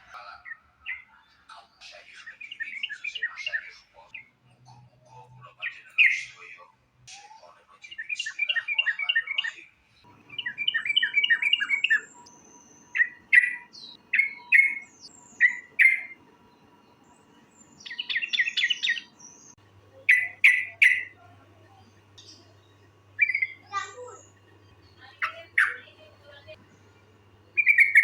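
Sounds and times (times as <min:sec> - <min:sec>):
bird singing chattering notes: 0:00.0 - 0:06.6, 0:07.2 - 0:28.0
faint steady hum: 0:00.0 - 0:28.0.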